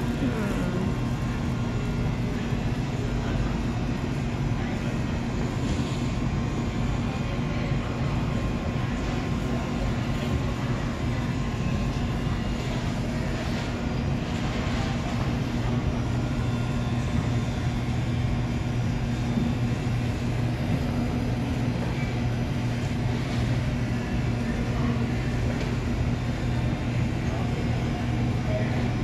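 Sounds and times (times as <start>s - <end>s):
low mechanical hum of machinery: 0.0s - 29.0s.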